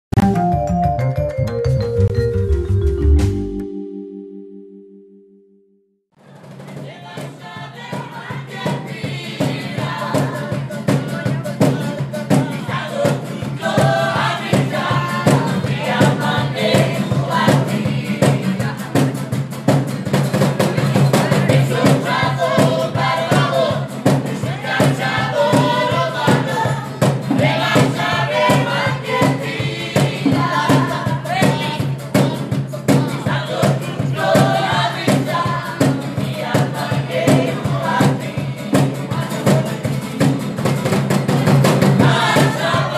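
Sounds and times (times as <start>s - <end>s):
cajon beat: 0.1s - 3.8s, 6.2s - 42.9s
voices singing together: 6.2s - 42.9s
strummed acoustic guitars: 8.2s - 42.9s.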